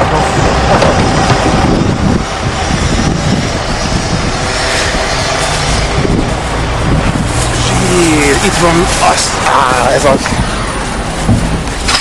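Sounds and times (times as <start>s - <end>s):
vehicle motor running: 0.0s - 12.0s.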